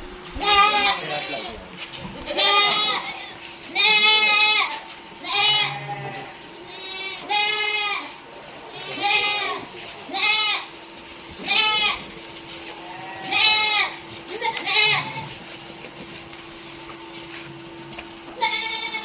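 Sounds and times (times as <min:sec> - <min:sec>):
goats bleating: 0:00.3 - 0:10.8, 0:11.4 - 0:15.5, 0:18.2 - 0:19.0.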